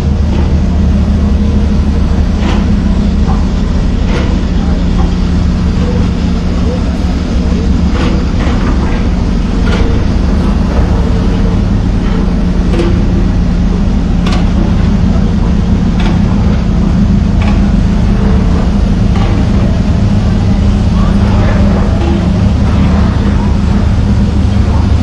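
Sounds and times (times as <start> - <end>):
ship diesel engines droning: 0.0 - 25.0.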